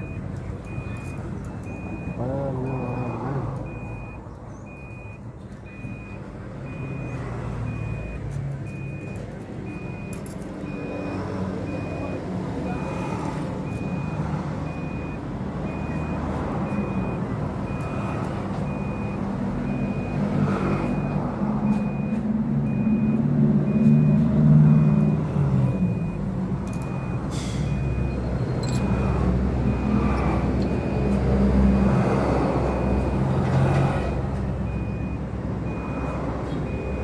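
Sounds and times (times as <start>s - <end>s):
reversing alarm beeping: 0.0s - 37.0s.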